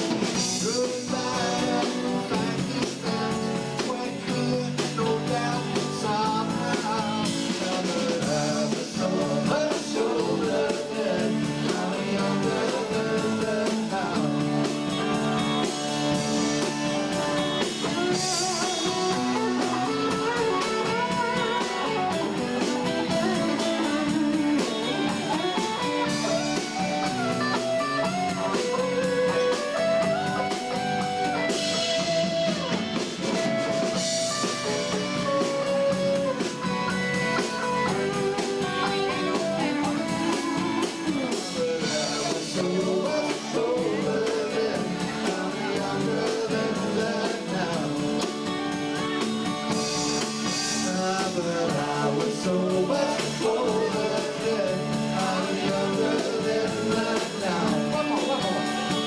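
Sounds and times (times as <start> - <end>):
bass and drums: 0.0 - 59.0
electric guitar: 0.0 - 59.0
person singing: 0.1 - 16.6, 17.6 - 33.0, 33.8 - 59.0.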